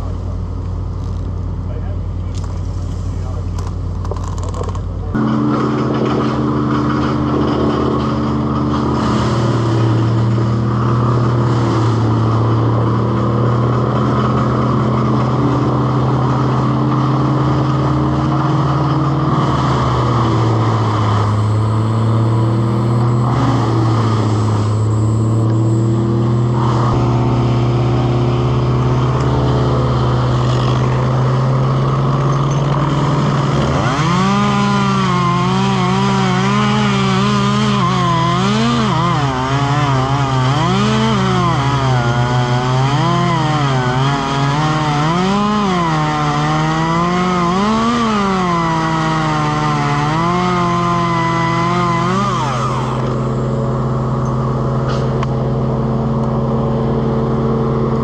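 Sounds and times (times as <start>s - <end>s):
engine drone: 0.0s - 58.0s
chainsaw revving: 3.5s - 58.0s.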